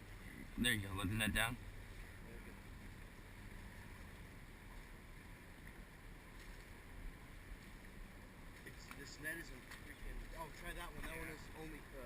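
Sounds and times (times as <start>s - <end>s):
background wind: 0.0s - 12.0s
water rumble: 0.0s - 12.0s.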